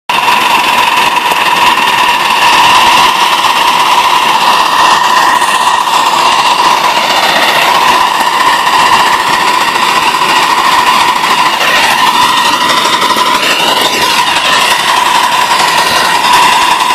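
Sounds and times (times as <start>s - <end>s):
high whine: 0.1s - 16.9s
miniature steam locomotive running: 0.1s - 16.9s.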